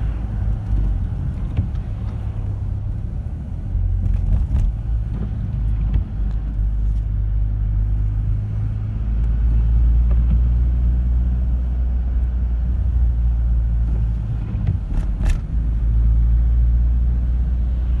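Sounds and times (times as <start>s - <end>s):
car driving on highway: 0.0s - 18.0s.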